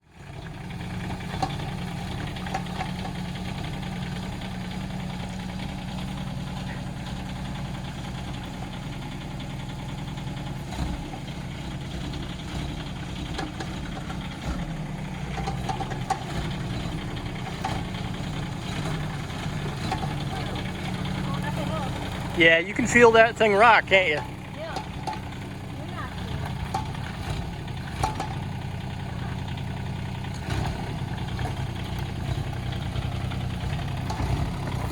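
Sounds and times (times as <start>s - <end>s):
small diesel engine running: 0.0s - 34.9s.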